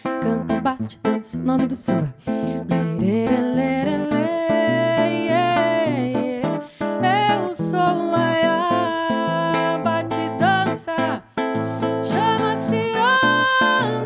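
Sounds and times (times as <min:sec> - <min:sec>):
strummed acoustic guitar: 0:00.0 - 0:14.0
woman singing: 0:00.0 - 0:14.0.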